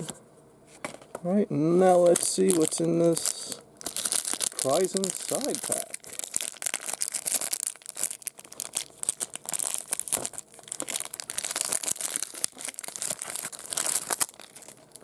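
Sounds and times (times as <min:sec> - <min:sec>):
wrapper being torn and crinkled: 0:01.9 - 0:15.0.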